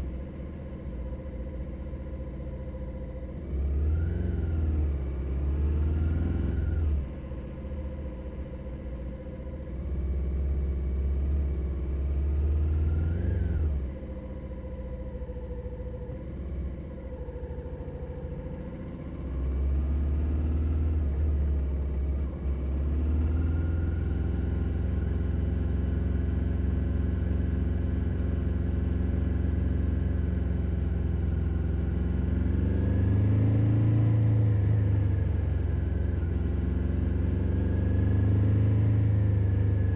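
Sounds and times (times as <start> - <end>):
motorcycle engine under way: 3.3 - 39.9.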